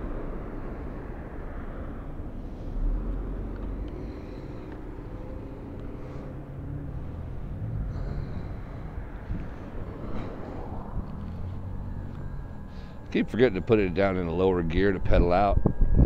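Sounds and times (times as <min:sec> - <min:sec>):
faint motor whine: 0:00.0 - 0:16.0
road noise: 0:00.0 - 0:16.0
wind rumble on microphone: 0:00.0 - 0:16.0.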